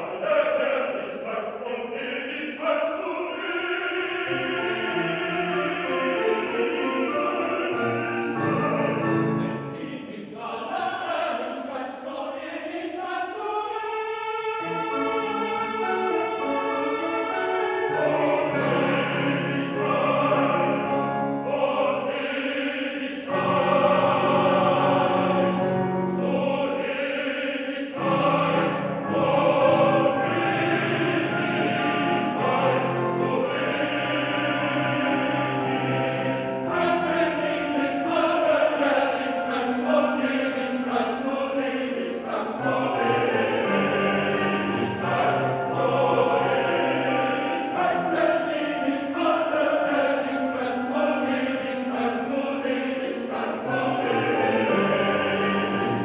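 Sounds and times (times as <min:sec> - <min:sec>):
male chorus singing: 0:00.0 - 0:56.0
piano accompaniment: 0:02.0 - 0:10.1, 0:14.6 - 0:56.0.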